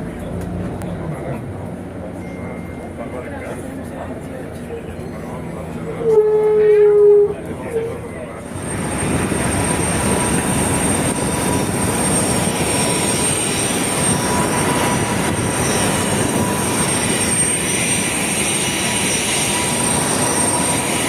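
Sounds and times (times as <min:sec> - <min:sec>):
jet engine rush and whine: 0:00.0 - 0:21.0.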